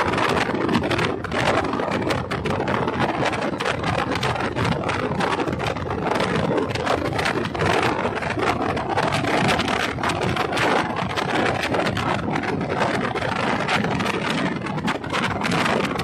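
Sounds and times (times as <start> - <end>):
bus road and wind noise: 0.0 - 16.0
small rattles and clicks: 0.0 - 16.0
wind buffeting microphone: 0.0 - 16.0.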